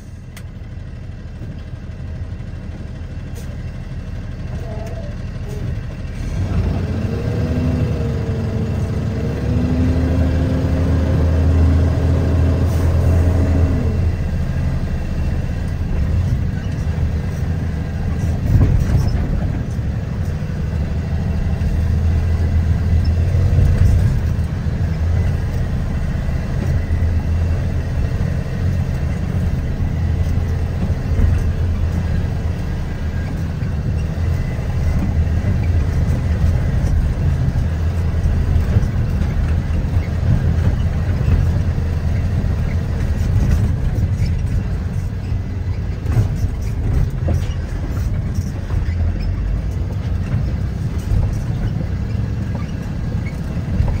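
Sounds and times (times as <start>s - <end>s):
steady engine tone: 0.0s - 54.0s
vehicle engine and road rumble: 0.0s - 54.0s.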